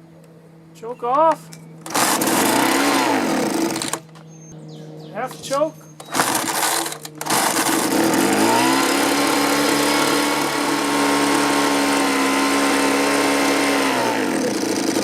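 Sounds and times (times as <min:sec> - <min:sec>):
leaf blower engine running: 0:01.2 - 0:15.0.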